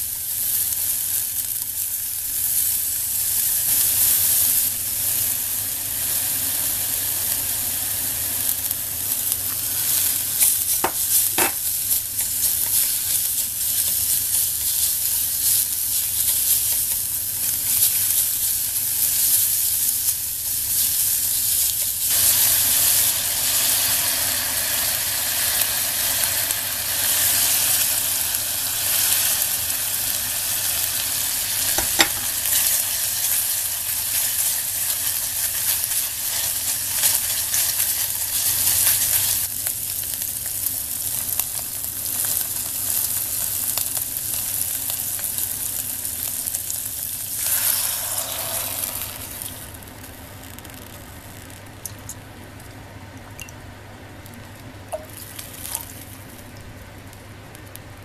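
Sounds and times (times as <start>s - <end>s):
pork and onion sizzling: 0.0s - 58.0s.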